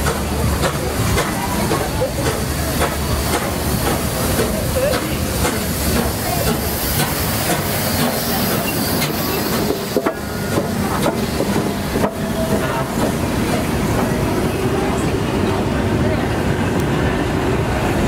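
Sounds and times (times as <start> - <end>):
steam hissing: 0.0 - 15.6.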